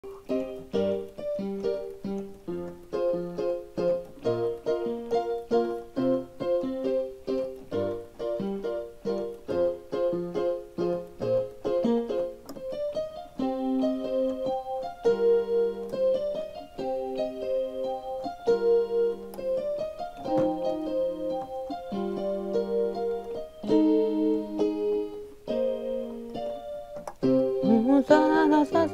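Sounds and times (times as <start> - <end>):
piano keyboard playing: 0.0 - 28.9.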